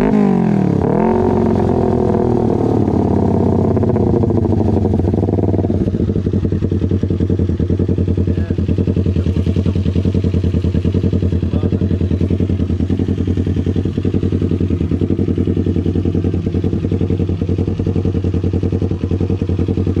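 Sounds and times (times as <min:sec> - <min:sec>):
motorcycle idling: 0:00.0 - 0:20.0.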